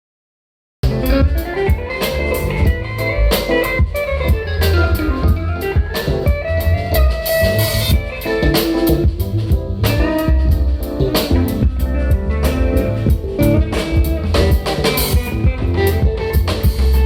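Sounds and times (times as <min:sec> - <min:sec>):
band playing guitar and drums: 0:00.8 - 0:17.0.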